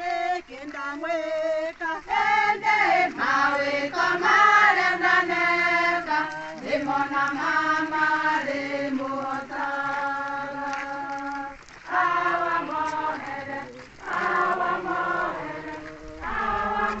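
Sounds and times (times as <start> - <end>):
crowd singing together: 0.0 - 17.0.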